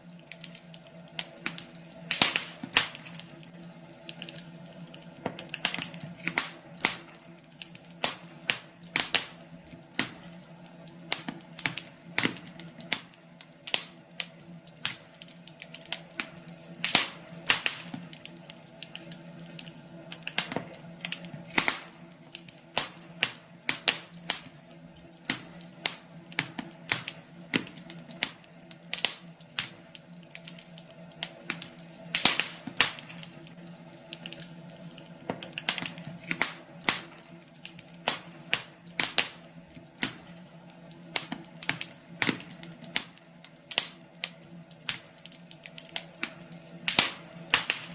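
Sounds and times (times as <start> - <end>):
steady low hum: 0.0 - 47.9
wood fire crackling: 0.0 - 47.9.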